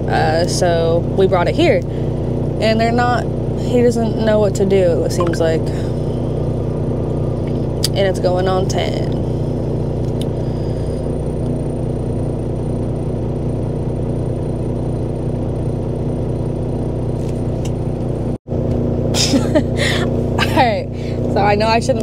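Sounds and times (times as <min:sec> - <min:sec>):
diesel truck engine idling: 0:00.0 - 0:18.4, 0:19.0 - 0:22.0.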